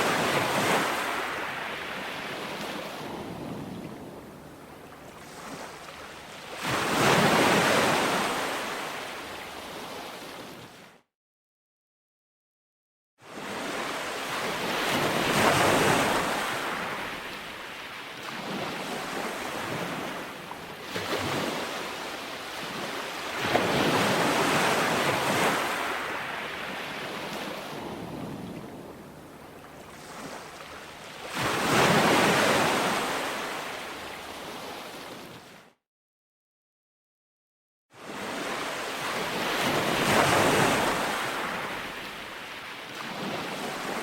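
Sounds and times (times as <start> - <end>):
ocean waves breaking on shore: 0.0 - 11.0, 13.2 - 35.8, 38.0 - 44.0.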